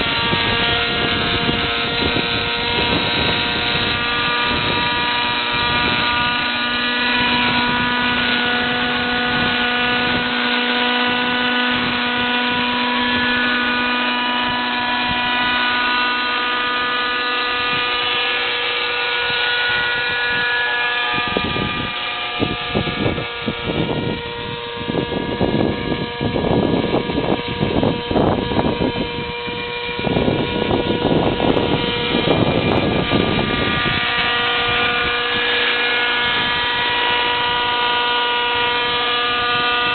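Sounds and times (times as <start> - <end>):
model helicopter engine and rotor: 0.0 - 39.9
rough buffeting noise: 0.0 - 39.9.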